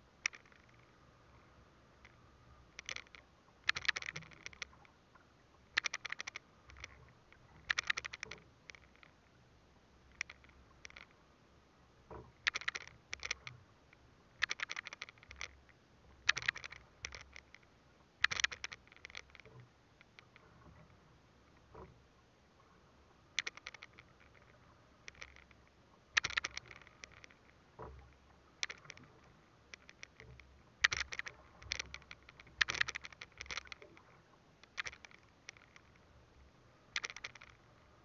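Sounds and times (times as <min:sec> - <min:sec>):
fishing line rasping clicks: 0:00.0 - 0:09.4, 0:10.0 - 0:11.3, 0:12.0 - 0:22.0, 0:22.6 - 0:38.0.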